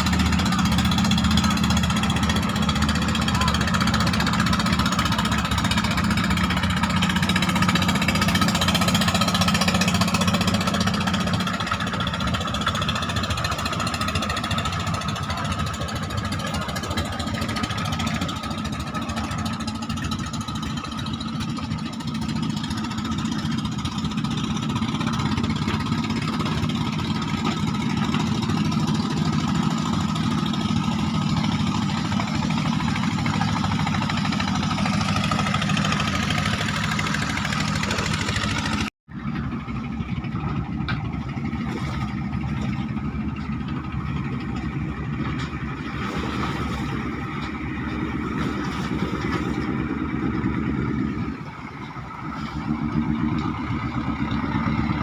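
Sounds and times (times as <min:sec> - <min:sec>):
boat diesel engine humming: 0:00.0 - 0:55.0.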